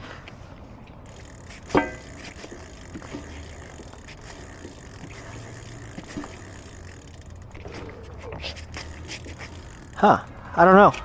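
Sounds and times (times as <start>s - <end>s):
light clicks and scrapes: 0.1s - 10.0s.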